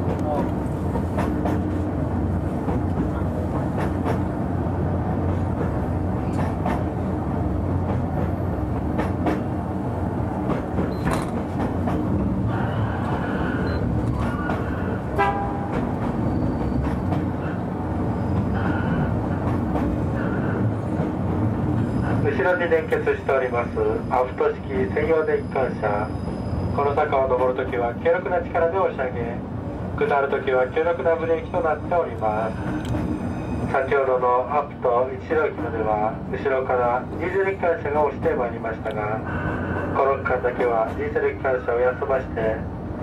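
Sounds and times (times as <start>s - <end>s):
train running hum: 0.0s - 43.0s.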